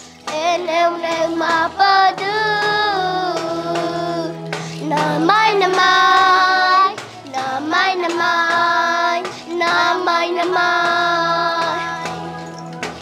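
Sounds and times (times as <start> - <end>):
girl singing a chant: 0.2 - 12.4.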